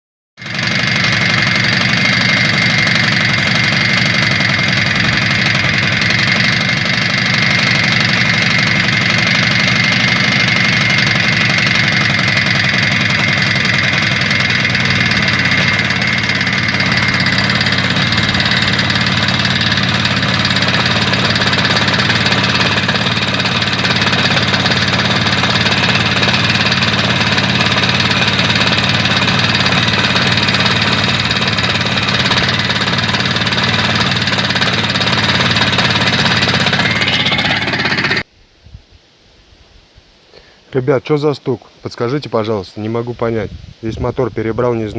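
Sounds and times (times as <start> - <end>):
engine idling with knock: 0.4 - 38.2.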